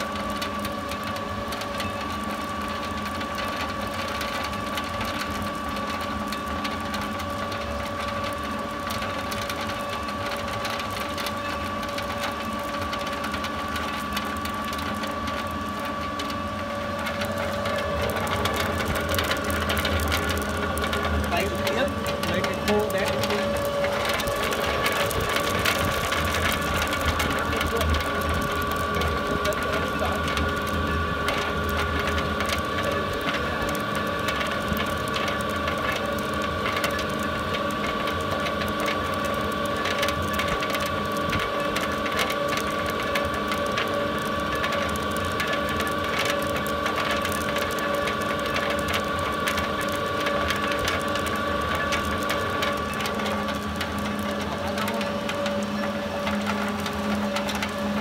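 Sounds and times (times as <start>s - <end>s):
pellet mill humming: 0.0s - 58.0s
rapid clicking rattle: 2.6s - 58.0s.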